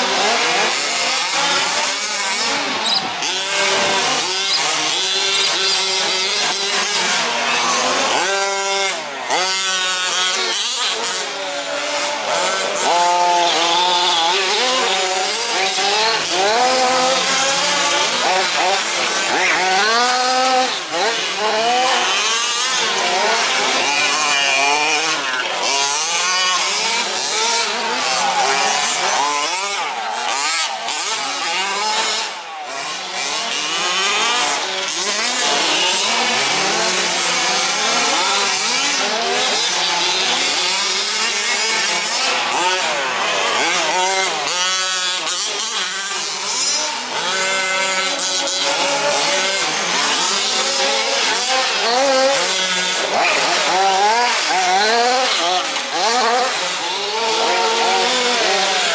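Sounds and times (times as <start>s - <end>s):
small two-stroke engines revving: 0.0s - 58.9s.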